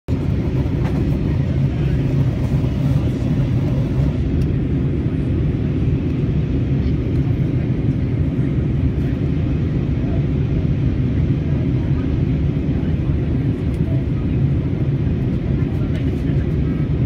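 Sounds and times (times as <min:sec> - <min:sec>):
jet engine cabin rumble: 0:00.1 - 0:17.0.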